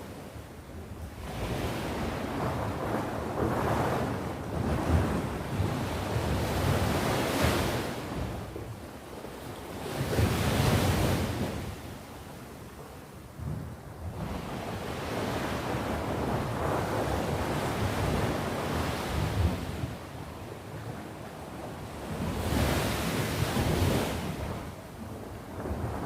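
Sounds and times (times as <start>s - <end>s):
sea waves washing ashore: 0.0s - 12.3s, 13.2s - 26.0s.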